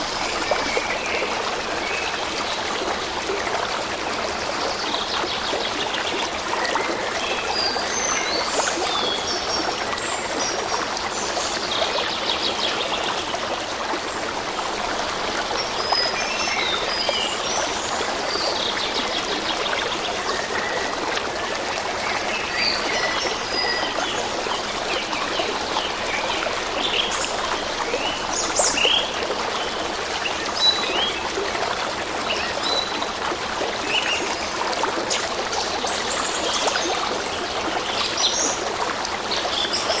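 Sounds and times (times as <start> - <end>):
stream trickling: 0.0 - 40.0.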